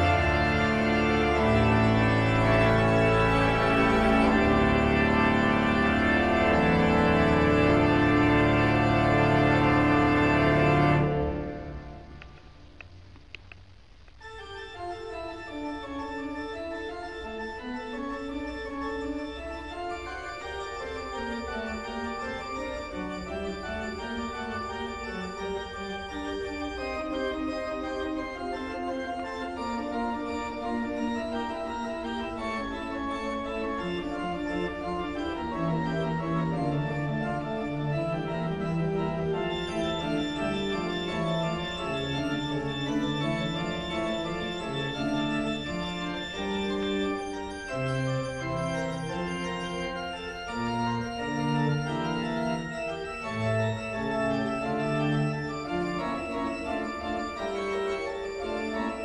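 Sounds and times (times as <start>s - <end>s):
organ music: 0.0s - 13.2s, 14.0s - 59.0s.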